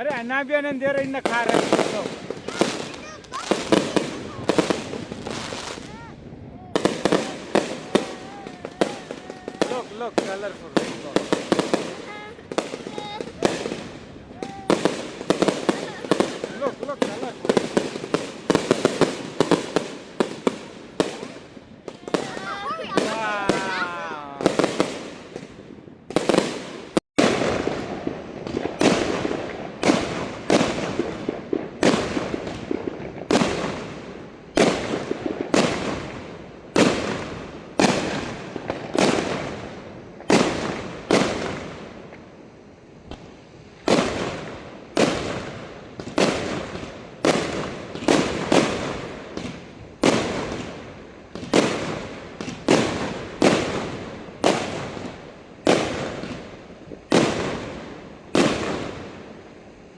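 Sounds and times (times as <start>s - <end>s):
fireworks bursts with echo: 0.0s - 59.9s.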